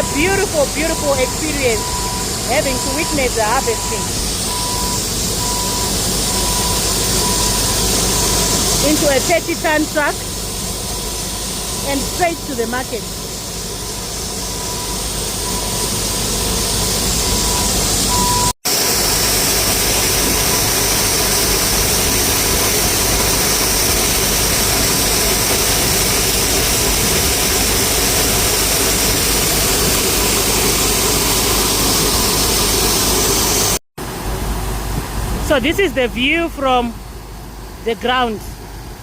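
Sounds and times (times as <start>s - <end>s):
combine harvester running: 0.0s - 39.0s.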